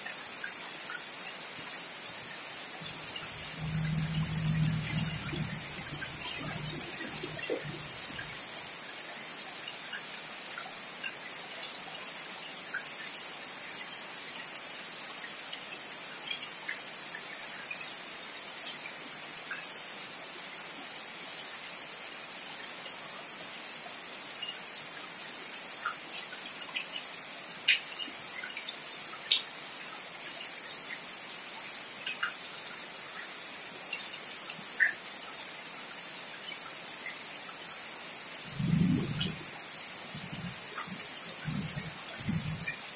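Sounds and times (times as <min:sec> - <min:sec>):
rain falling on trees: 0:00.0 - 0:14.4, 0:15.1 - 0:42.9.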